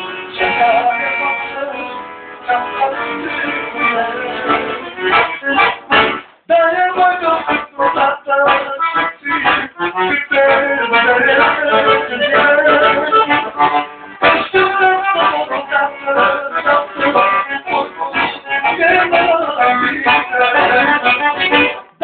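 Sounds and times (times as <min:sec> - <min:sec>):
accordion playing folk melody: 0:00.0 - 0:22.0.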